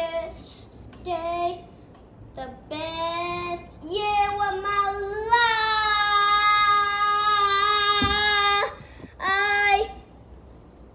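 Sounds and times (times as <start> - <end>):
child singing: 0.0 - 1.7, 2.3 - 10.1.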